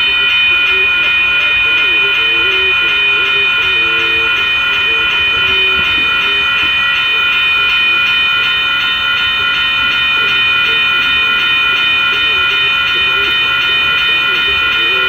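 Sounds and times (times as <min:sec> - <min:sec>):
high-pitched ringing tones: 0:00.0 - 0:15.0
train rumbling past: 0:00.0 - 0:15.0.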